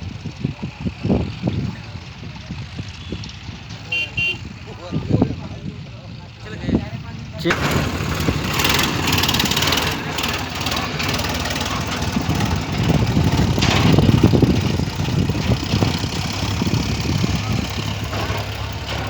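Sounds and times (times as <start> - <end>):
tractor engines rumbling: 0.0 - 19.0.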